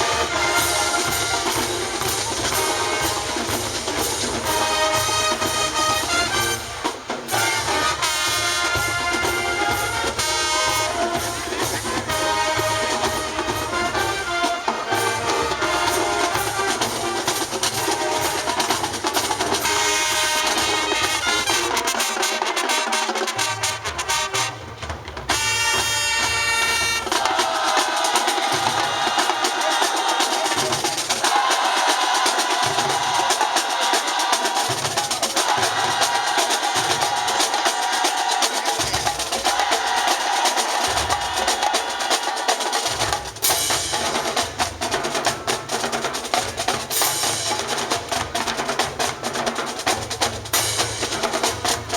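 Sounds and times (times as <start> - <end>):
drumline snares and bass drums: 0.0 - 51.9
marching band brass section: 0.0 - 51.9.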